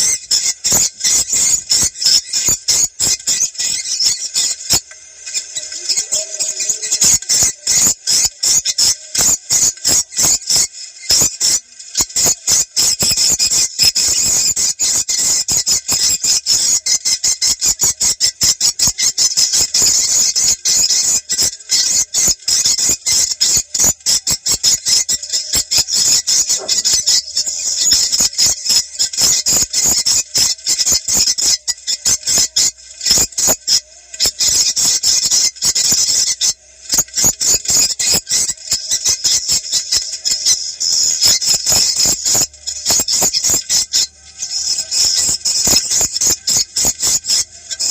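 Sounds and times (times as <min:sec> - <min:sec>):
swiftlet chirps and twitters: 0:00.0 - 0:47.9.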